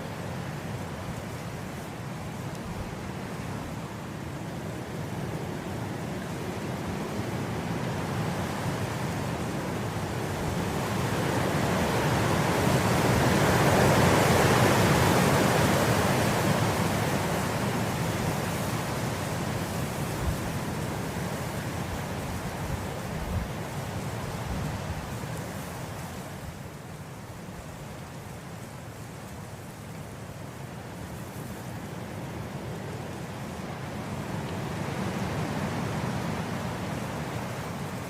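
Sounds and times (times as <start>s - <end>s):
wind blowing through grass: 0.0s - 38.0s.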